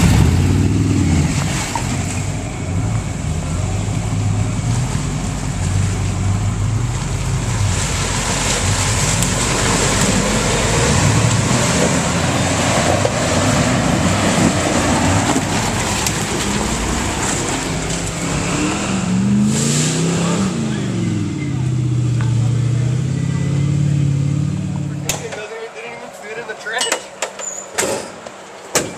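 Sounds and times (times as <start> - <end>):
truck engine under load: 0.0 - 28.9
tyre and driving noise: 0.0 - 28.9.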